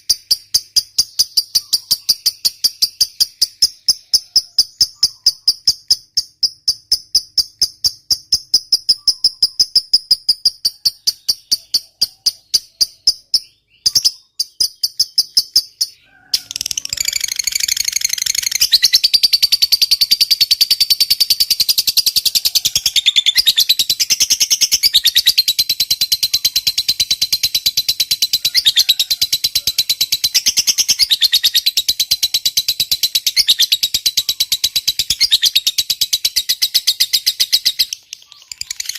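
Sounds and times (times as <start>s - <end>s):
high rattling bird trill: 0.0s - 38.9s
lovebird chattering: 0.0s - 38.9s.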